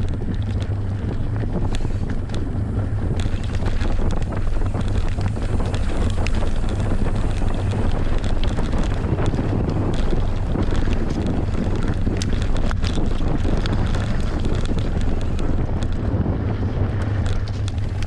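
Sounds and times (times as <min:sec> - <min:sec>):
bike rattling clicks: 0:00.0 - 0:18.0
low rumble: 0:00.0 - 0:18.0
wind buffeting microphone: 0:00.0 - 0:18.0.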